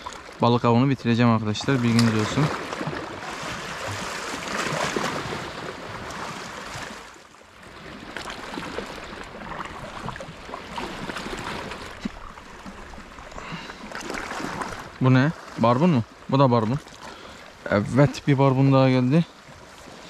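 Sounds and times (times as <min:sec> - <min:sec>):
sea water lapping at shore: 0:00.0 - 0:20.0.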